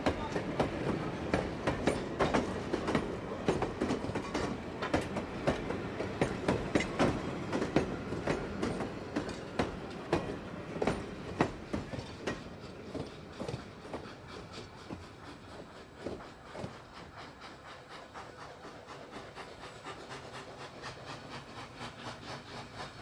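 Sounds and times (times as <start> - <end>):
train rumble: 0.0 - 23.0
train wheels clacking: 0.0 - 23.0.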